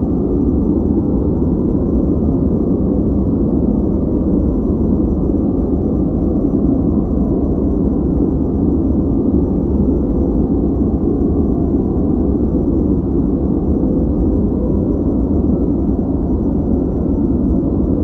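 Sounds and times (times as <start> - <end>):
deep rumbling noise: 0.0 - 18.0.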